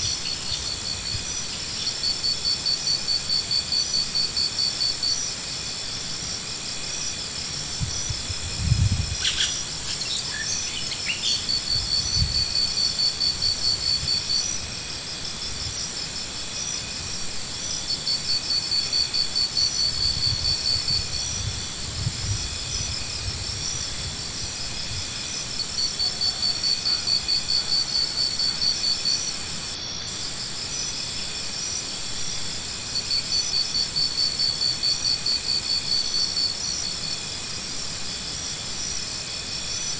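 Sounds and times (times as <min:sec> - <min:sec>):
insects calling in pulsed bouts: 0:00.0 - 0:39.9.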